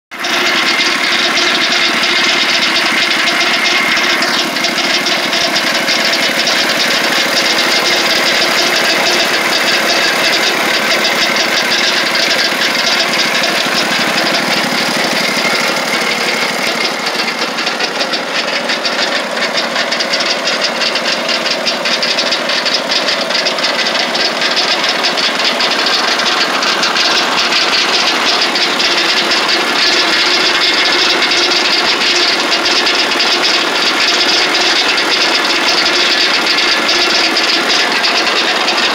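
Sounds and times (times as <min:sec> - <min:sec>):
noisy gearbox: 0:00.1 - 0:38.9
sawmill engine running: 0:00.1 - 0:38.9.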